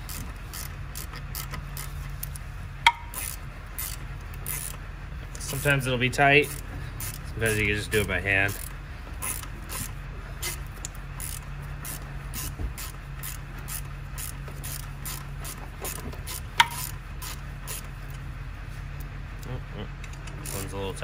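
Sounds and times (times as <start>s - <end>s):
ratchet clicking: 0.0s - 5.8s, 6.4s - 18.2s, 20.0s - 20.8s
steady low hum: 0.0s - 21.0s.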